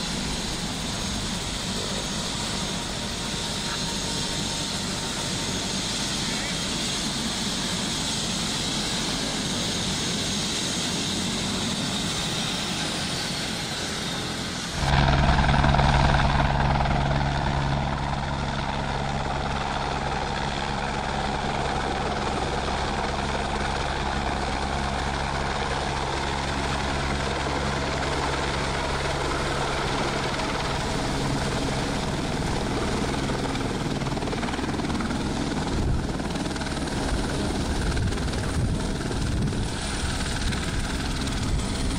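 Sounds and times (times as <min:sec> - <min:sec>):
helicopter rotor and turbine noise: 0:00.0 - 0:41.9.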